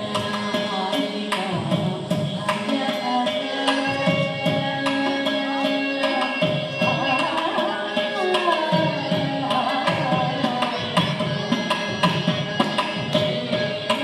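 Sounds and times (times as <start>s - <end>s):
violin: 0.0s - 14.0s
woman singing with ornaments: 0.0s - 14.0s.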